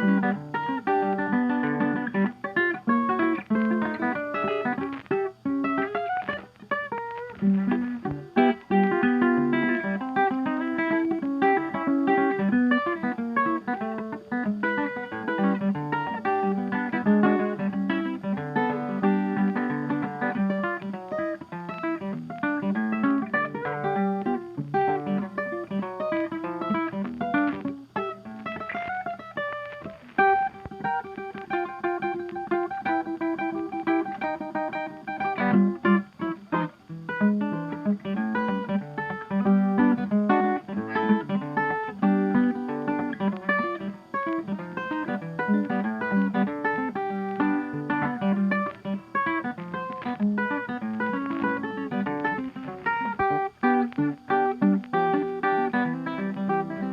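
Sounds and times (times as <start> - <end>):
acoustic guitar music: 0.0 - 56.9.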